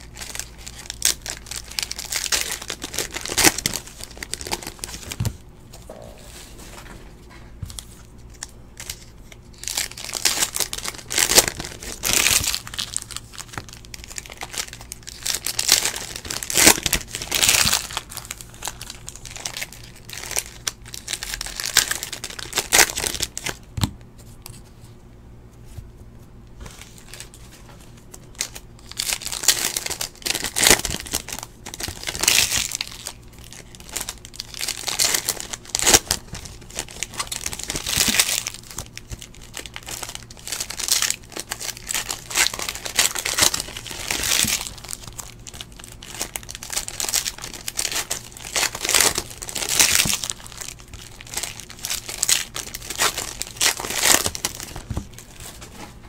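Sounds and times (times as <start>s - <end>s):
foil wrappers crinkling and tearing: 0.0s - 5.4s, 7.6s - 23.7s, 26.6s - 55.9s.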